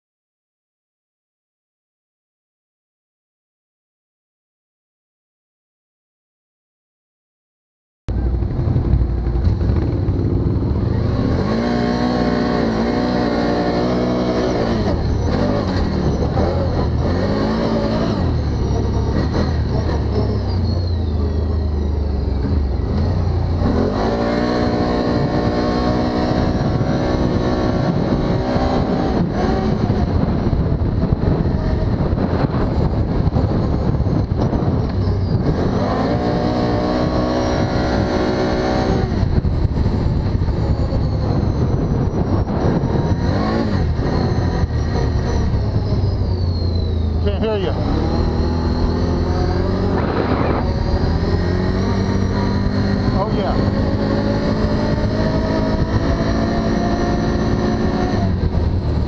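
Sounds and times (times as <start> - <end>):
atv engine accelerating: 8.1 - 59.0.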